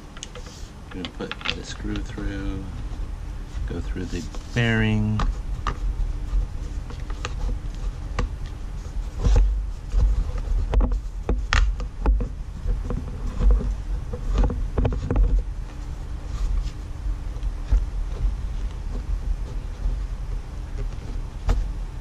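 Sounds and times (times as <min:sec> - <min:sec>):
low rumbling bumps of handling: 0:00.0 - 0:22.0.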